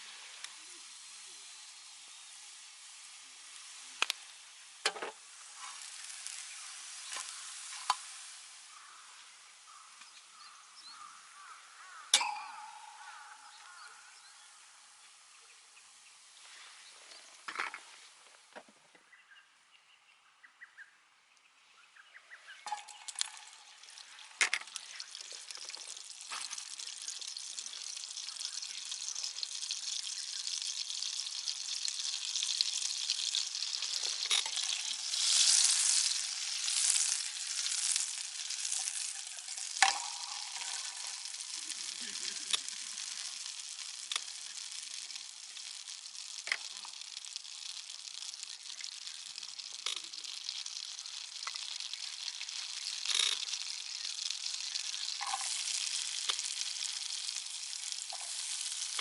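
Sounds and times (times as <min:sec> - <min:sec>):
food sizzling on a griddle: 0:00.0 - 0:18.5, 0:22.5 - 0:59.0.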